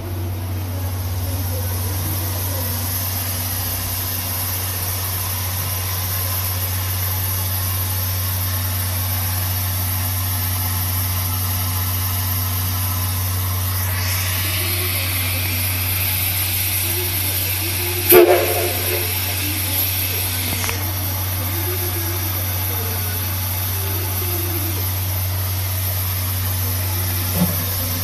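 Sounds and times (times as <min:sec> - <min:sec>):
steam locomotive rumble and hiss: 0:00.0 - 0:28.0
steam venting hiss: 0:00.8 - 0:28.0.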